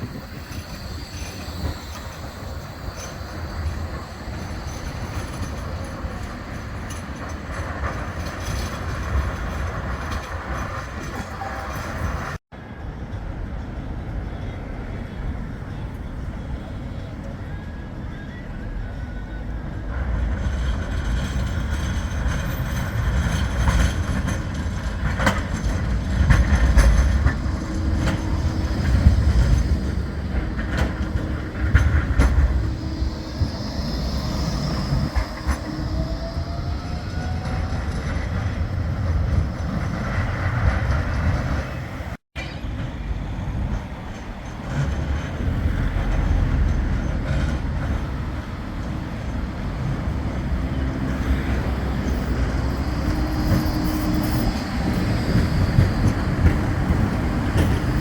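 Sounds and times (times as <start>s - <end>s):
tram motor whine: 0.0s - 12.4s, 14.2s - 42.2s, 45.4s - 58.0s
wheels clicking over rail joints: 0.0s - 12.4s, 19.9s - 58.0s
electric tram rumbling on rails: 0.0s - 58.0s.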